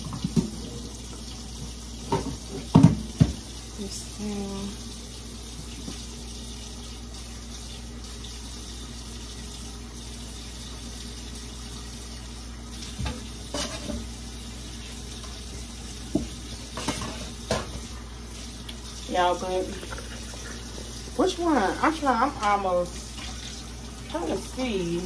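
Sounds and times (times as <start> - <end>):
faucet running into a sink: 0.0 - 25.0.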